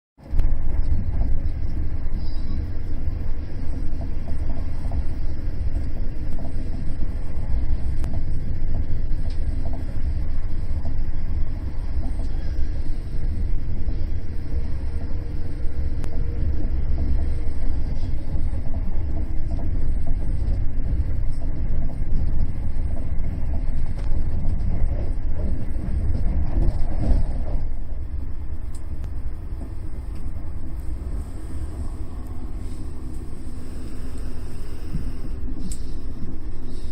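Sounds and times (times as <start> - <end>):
train wheels rumbling on track: 0.2 - 36.9.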